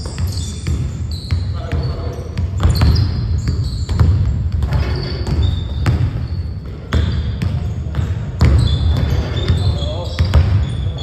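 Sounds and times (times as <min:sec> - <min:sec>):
basketballs bouncing on hardwood: 0:00.0 - 0:11.0
sneaker squeaks: 0:00.0 - 0:11.0.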